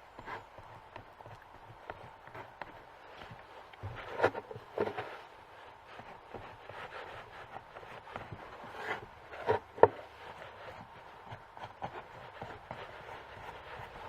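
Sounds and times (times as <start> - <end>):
light scraping: 0.0 - 14.0.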